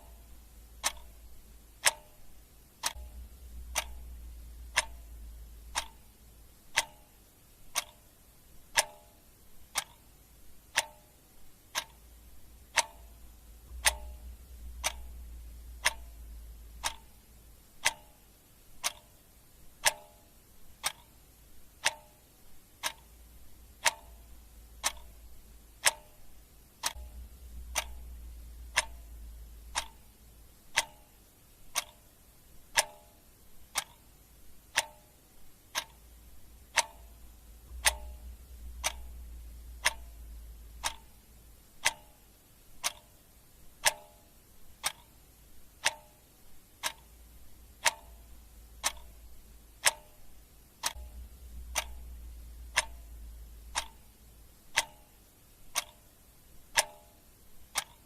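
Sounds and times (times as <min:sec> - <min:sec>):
clock ticking: 0:00.0 - 0:58.0
faint low rumble: 0:00.0 - 0:58.0.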